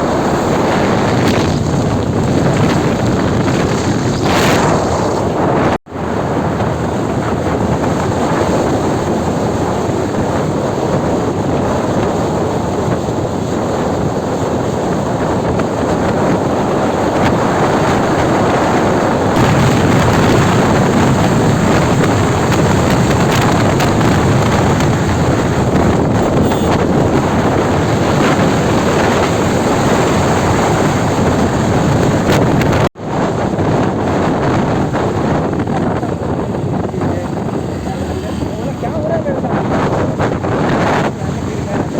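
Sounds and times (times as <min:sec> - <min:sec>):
wind noise on microphone: 0:00.0 - 0:41.9.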